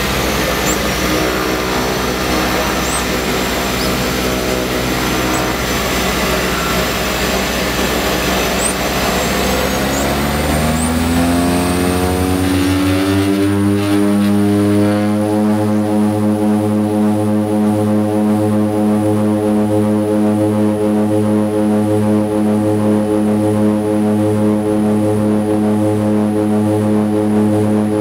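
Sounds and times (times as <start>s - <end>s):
turboprop engines and propellers: 0.0s - 28.0s.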